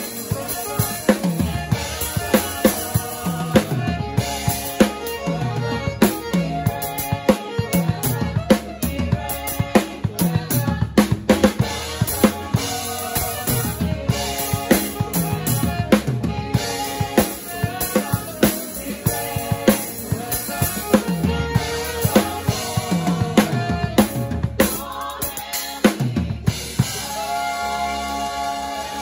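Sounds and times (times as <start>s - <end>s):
drum kit playing groove: 0.0s - 29.0s
keyboard and piano chords: 0.0s - 29.0s.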